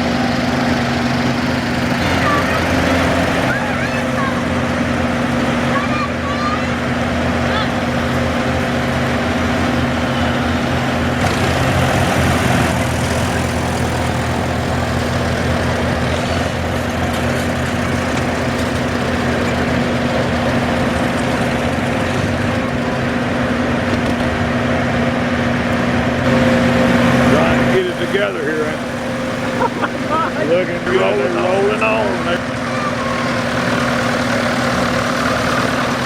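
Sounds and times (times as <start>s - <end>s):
tractor engines droning: 0.0s - 36.0s.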